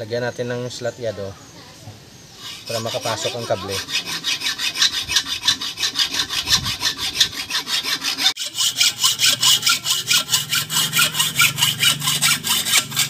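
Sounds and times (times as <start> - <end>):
hacksaw cutting metal: 2.4 - 13.0.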